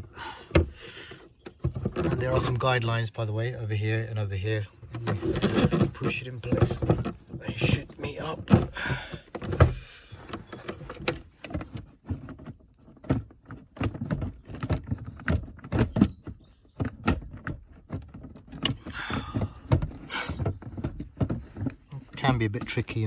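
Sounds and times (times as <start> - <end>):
plastic glove box knocking and scraping: 0.0 - 23.0.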